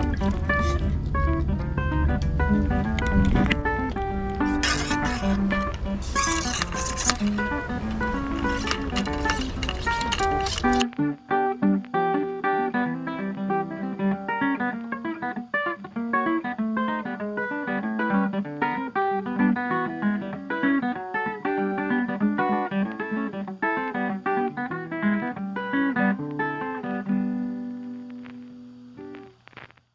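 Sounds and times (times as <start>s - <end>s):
plucked guitar run: 0.0s - 29.9s.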